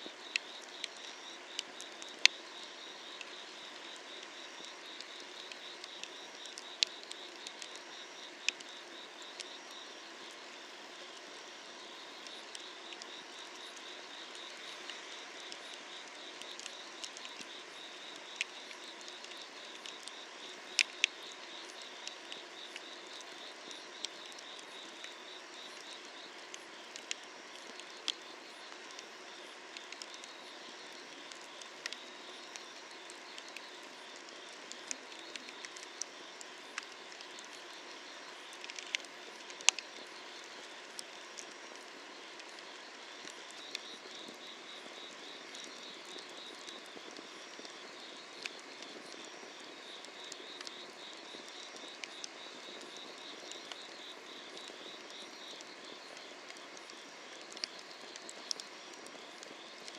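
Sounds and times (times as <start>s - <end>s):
wood fire crackling: 0.1s - 11.2s, 11.8s - 59.9s.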